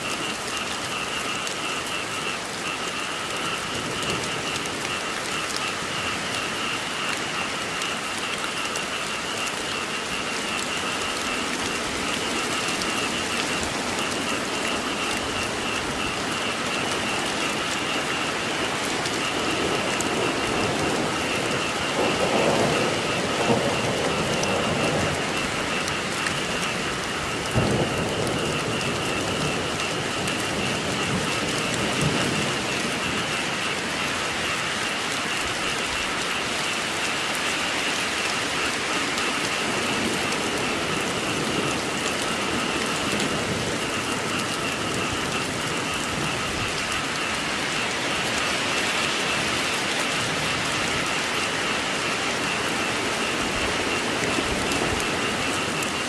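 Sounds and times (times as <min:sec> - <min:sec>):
thunder rumbling: 0:00.0 - 0:37.0, 0:37.9 - 0:56.0
frogs calling: 0:00.0 - 0:56.0
heavy rain hissing: 0:00.0 - 0:56.0.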